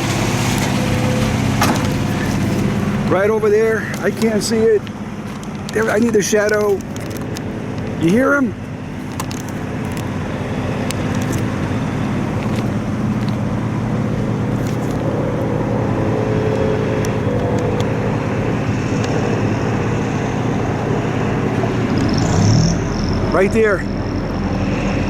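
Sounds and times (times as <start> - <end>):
propeller aircraft engine drone: 0.0 - 25.0.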